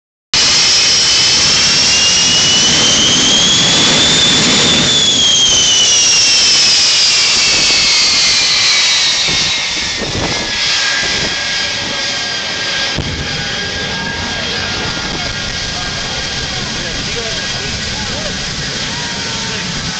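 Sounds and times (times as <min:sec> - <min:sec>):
jet engines whining: 0:00.4 - 0:19.9.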